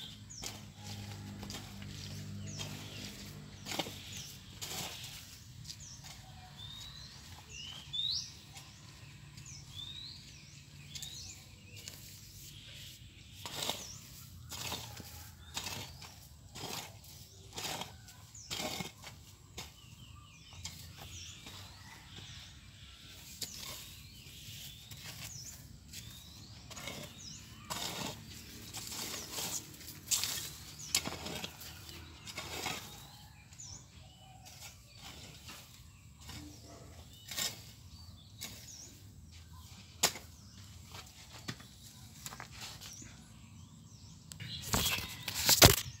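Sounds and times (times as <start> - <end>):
hoe scraping dry soil: 0.0 - 46.0.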